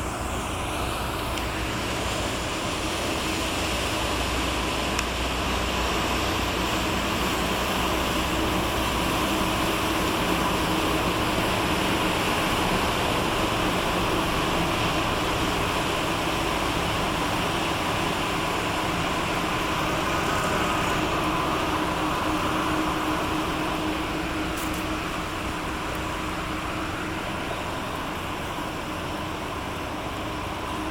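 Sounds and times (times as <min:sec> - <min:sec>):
ship engine drone: 0:00.0 - 0:30.9.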